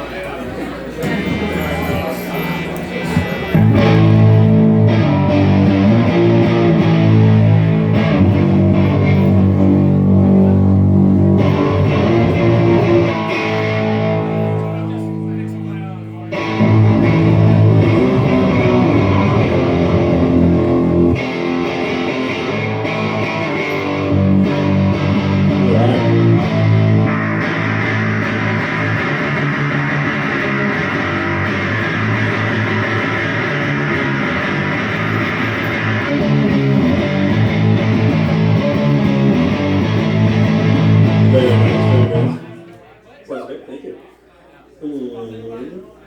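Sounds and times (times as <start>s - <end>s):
amplified guitar chords: 3.5s - 42.7s.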